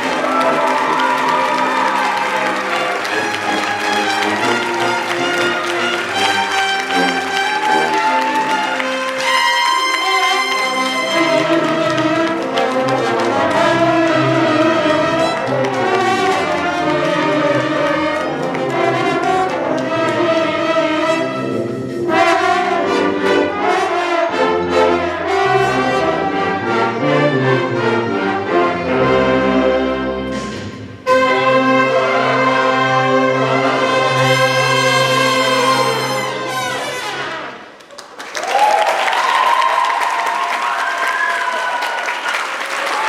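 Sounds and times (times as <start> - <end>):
wind band playing: 0.0 - 37.8.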